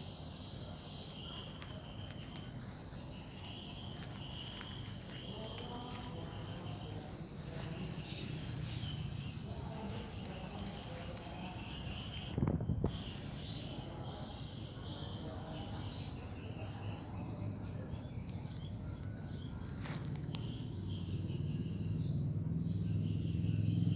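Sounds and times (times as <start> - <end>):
insects chirring: 0.0 - 23.9.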